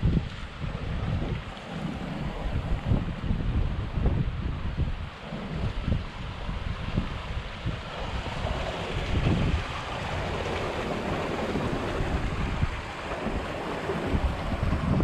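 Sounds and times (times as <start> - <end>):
water rushing under ice: 0.0 - 15.0
wind gusting on microphone: 0.0 - 15.0.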